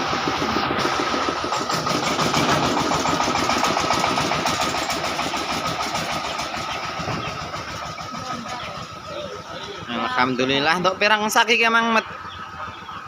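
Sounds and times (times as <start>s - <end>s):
small engine rattling: 0.0s - 13.0s.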